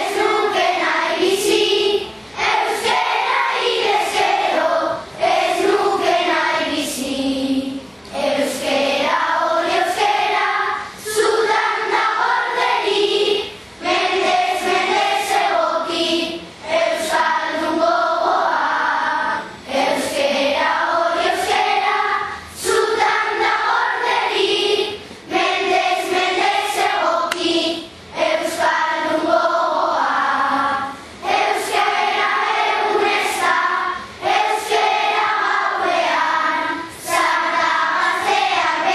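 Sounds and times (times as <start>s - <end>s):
choir singing: 0.0s - 38.9s.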